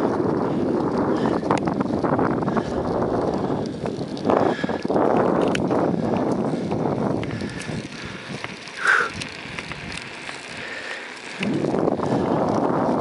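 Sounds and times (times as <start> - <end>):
wind on microphone: 0.0 - 10.2, 11.3 - 13.0
bicycle tyres on gravel: 0.0 - 13.0.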